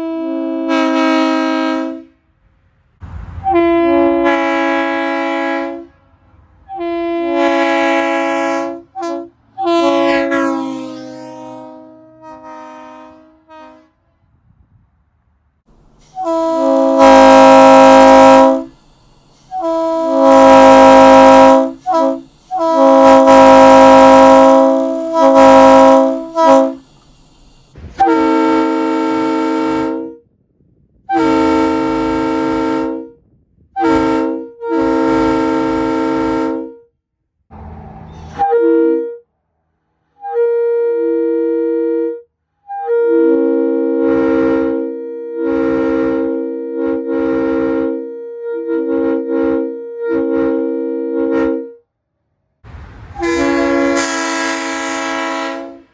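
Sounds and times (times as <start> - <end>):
train horn blasts: 0.0 - 2.3, 3.3 - 14.7, 16.0 - 30.3, 31.1 - 36.9, 38.1 - 39.3, 40.2 - 51.9, 53.0 - 55.9.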